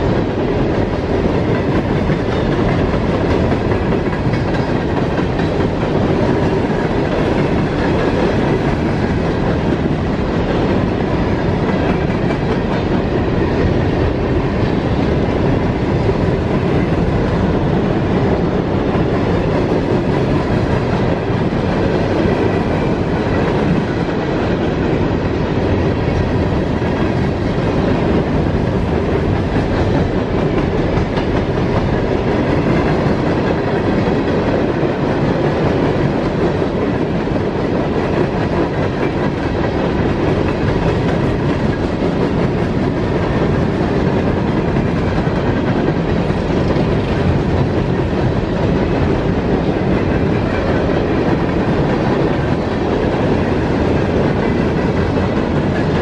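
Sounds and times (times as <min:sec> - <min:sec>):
wheels clacking over rail joints: 0:00.0 - 0:56.0.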